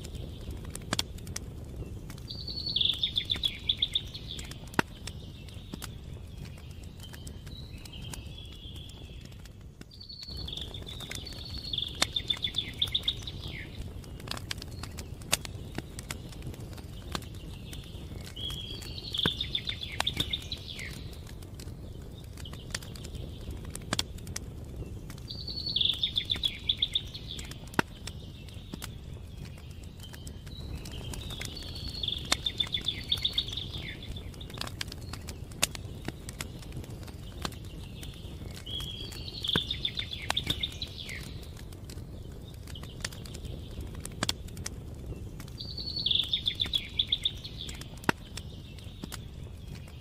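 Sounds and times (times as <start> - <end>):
campfire crackling and popping: 0.0 - 50.0.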